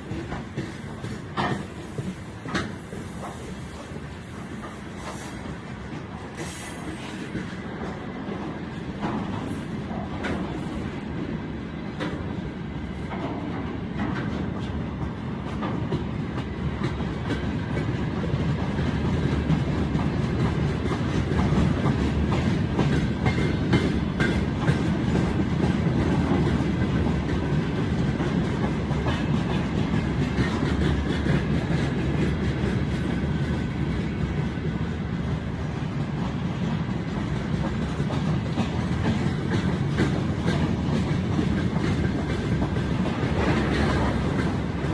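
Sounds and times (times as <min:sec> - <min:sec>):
freight train wagons rumbling: 0:00.0 - 0:44.9
wheels clacking over rail joints: 0:00.0 - 0:44.9.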